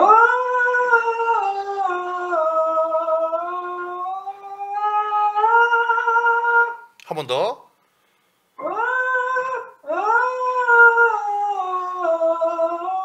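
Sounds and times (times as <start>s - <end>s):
man singing a held vowel: 0.0s - 7.5s, 8.6s - 13.0s.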